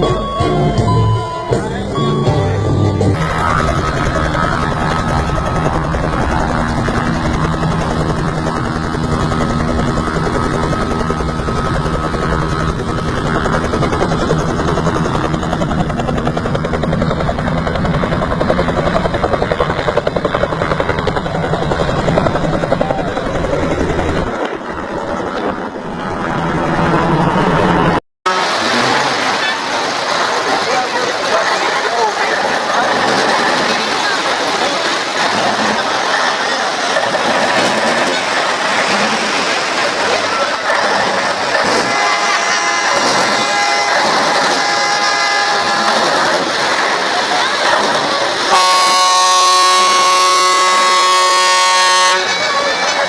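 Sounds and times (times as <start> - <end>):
helicopter rotor beating: 0.0 - 53.0.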